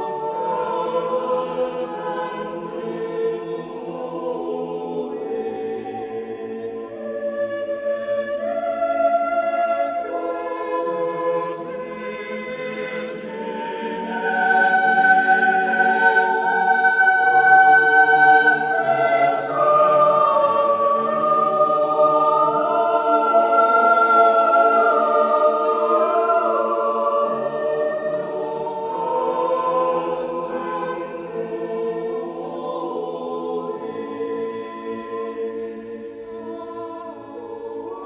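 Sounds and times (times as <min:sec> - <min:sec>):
choir singing held chords: 0:00.0 - 0:38.0.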